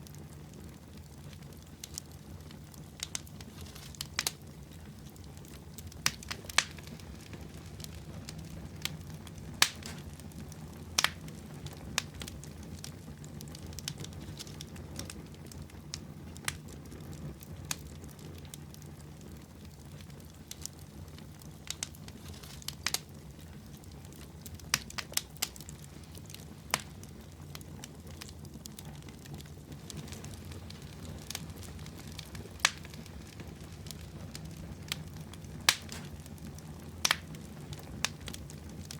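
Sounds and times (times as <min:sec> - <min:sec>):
campfire pops and crackles: 0:00.0 - 0:38.9
low rumble of flames: 0:00.0 - 0:38.9.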